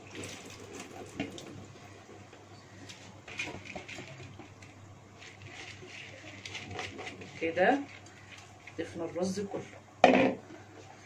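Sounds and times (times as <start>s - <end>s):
liquid sloshing: 0.0s - 9.8s
low steady hum: 0.0s - 11.0s.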